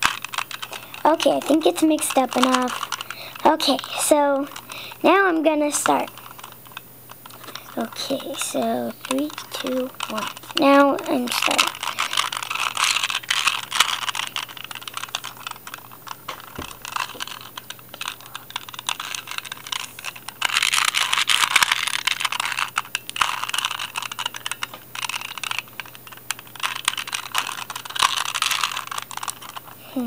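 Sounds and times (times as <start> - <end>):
puzzle cube plastic clicks: 0.0 - 29.8.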